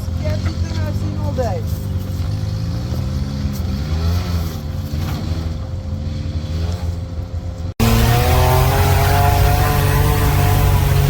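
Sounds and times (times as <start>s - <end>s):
small truck engine running: 0.0s - 11.0s.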